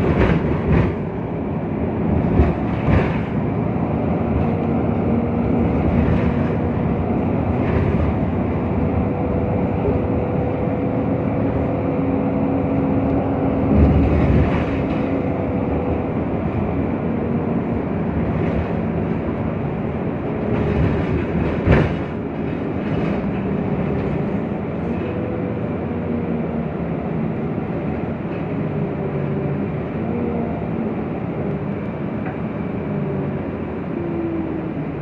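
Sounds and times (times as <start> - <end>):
bus engine whine: 0.0 - 35.0
road rumble: 0.0 - 35.0.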